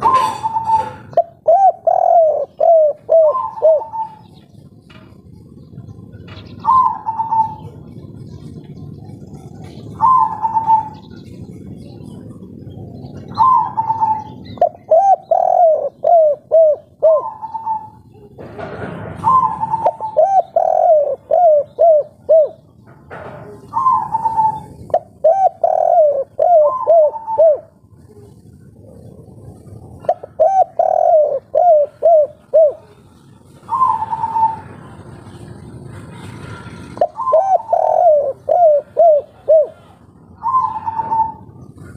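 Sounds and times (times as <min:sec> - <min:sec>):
dove cooing: 0:00.0 - 0:41.9.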